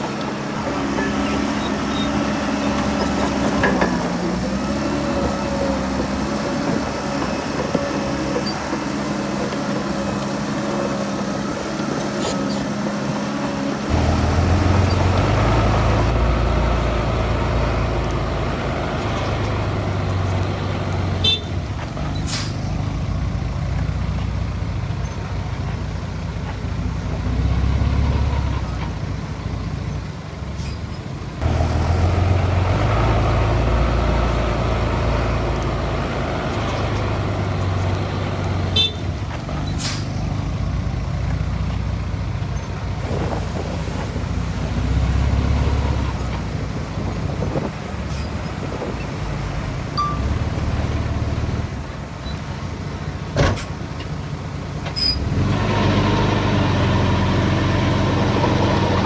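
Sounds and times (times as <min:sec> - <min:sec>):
heavy diesel engines droning: 0:00.0 - 0:59.0.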